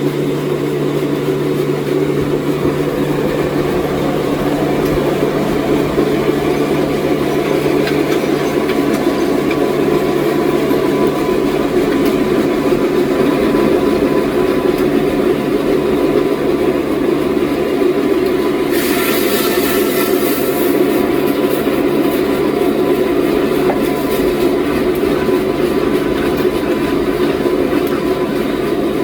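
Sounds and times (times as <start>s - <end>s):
sawmill machinery droning: 0.0s - 29.0s.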